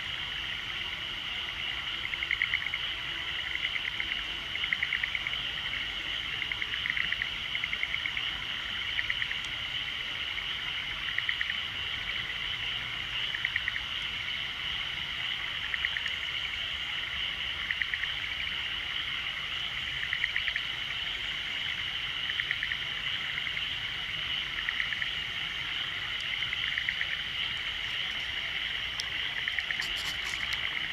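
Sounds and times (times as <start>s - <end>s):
frogs pulsed calls: 0.0s - 30.9s.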